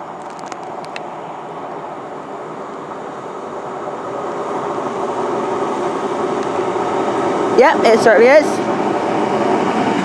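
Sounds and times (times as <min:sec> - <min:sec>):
diesel train engine drone: 0:00.0 - 0:10.0.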